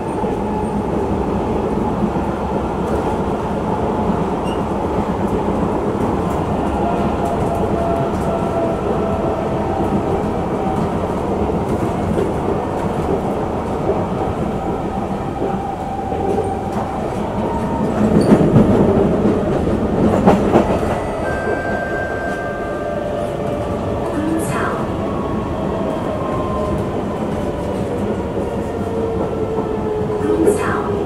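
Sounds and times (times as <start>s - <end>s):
train clatter and knocks: 0.0s - 31.0s
train wheels rumbling on rail: 0.0s - 31.0s.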